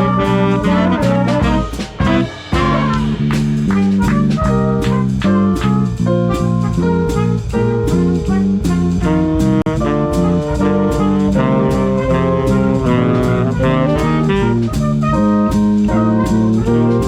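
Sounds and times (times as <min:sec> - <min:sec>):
drum kit swing beat: 0:00.0 - 0:17.0
swing big band playing: 0:00.0 - 0:17.0.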